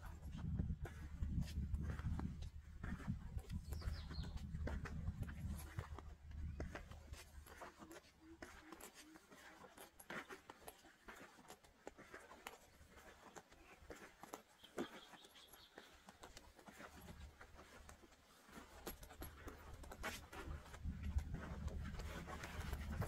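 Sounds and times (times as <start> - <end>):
faint clicks and rustles: 0.0 - 23.0.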